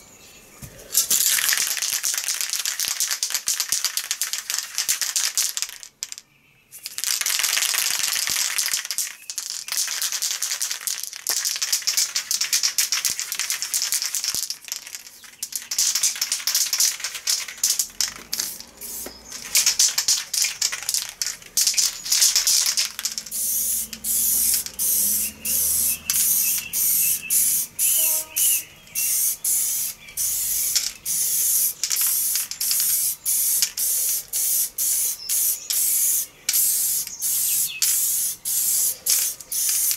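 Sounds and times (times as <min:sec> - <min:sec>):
spray paint can hissing: 0:00.9 - 0:06.2, 0:06.8 - 0:39.9.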